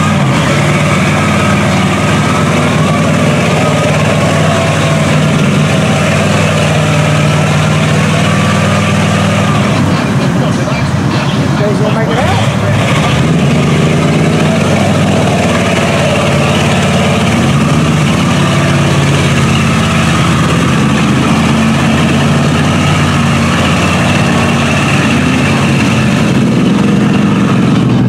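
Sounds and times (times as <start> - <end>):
pickup truck engine at low revs: 0.0 - 28.0.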